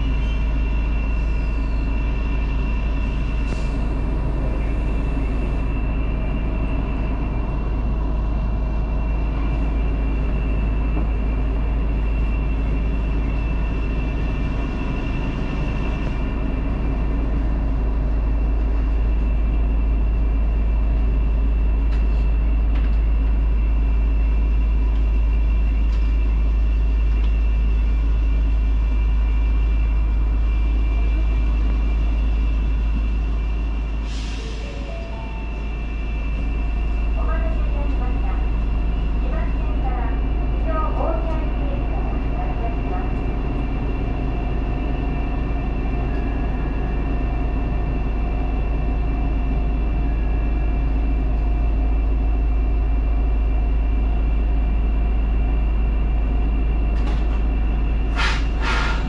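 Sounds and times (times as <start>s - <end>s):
high whine: 0.0s - 59.0s
tram rumbling on track: 0.0s - 59.0s.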